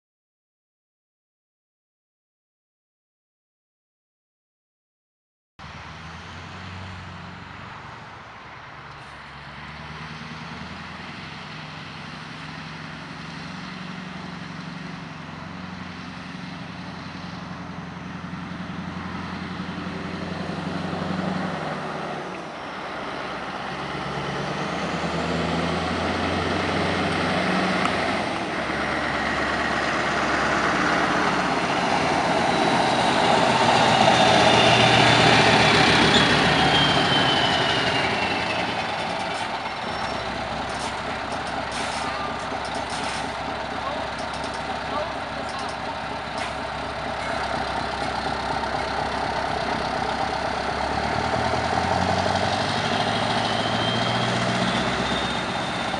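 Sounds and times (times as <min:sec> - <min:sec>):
diesel truck engine under load: 0:05.6 - 0:55.9.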